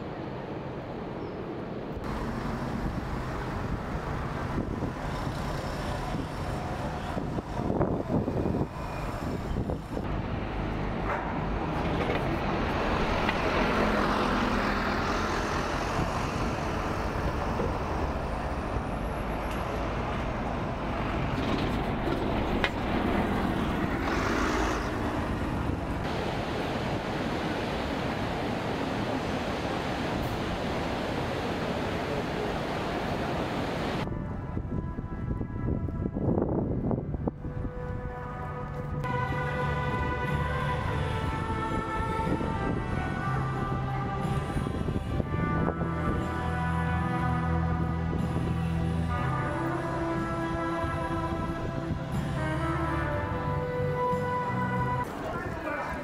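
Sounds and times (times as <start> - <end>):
traffic passing: 0.0 - 56.0.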